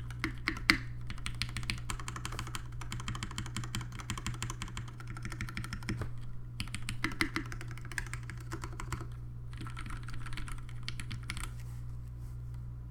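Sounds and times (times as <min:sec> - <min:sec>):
mechanical keyboard typing: 0:00.0 - 0:11.5.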